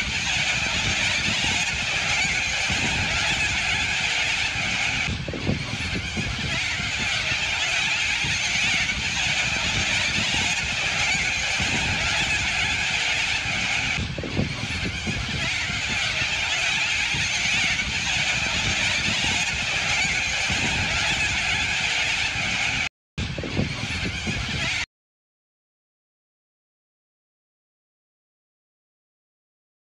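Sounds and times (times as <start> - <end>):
cockatoos screeching: 0.0 - 22.9, 23.5 - 24.8.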